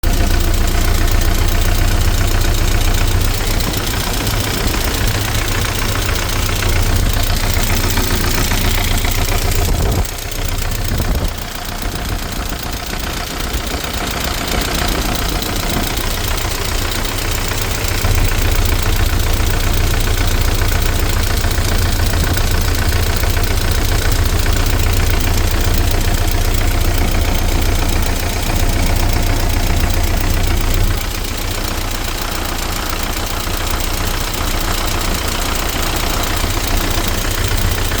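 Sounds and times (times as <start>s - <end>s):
petrol engine knocking: 0.0s - 38.0s.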